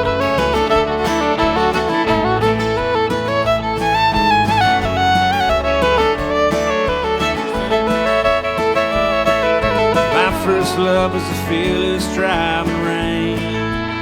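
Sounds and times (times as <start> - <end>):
country music with fiddle: 0.0 - 14.0.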